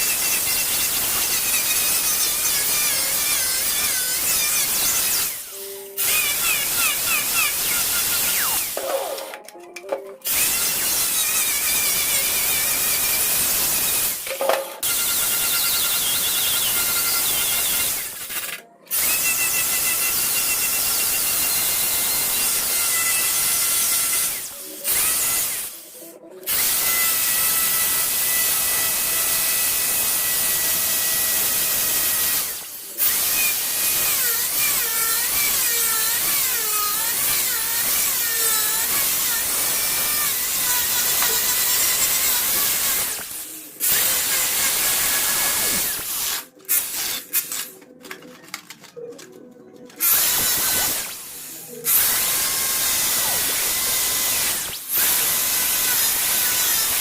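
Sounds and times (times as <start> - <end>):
electric power drill running: 0.0 - 9.3, 10.2 - 14.2, 14.8 - 25.9, 26.5 - 47.7, 50.0 - 57.0.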